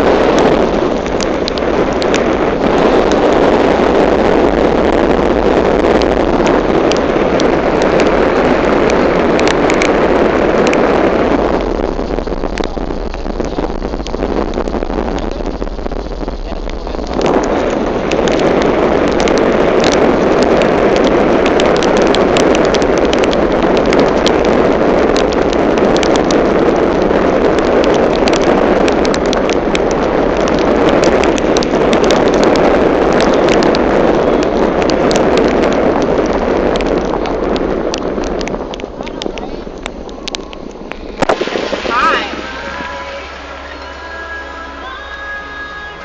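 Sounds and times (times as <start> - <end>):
heavy rain drumming on car roof: 0.0 - 46.0.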